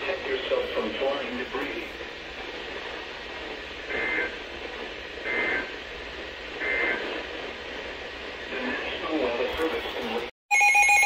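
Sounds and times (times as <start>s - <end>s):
radio hiss: 0.0s - 10.3s.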